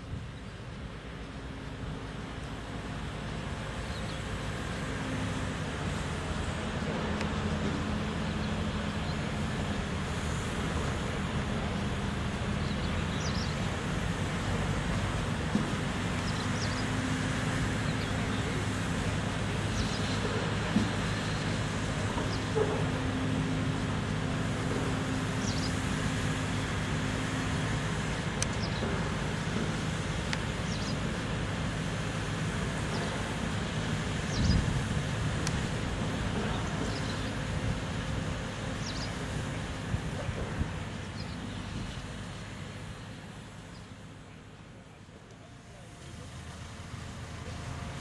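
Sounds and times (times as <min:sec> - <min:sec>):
diesel engine running: 0:00.0 - 0:48.0
outdoor noise rushing: 0:00.0 - 0:48.0.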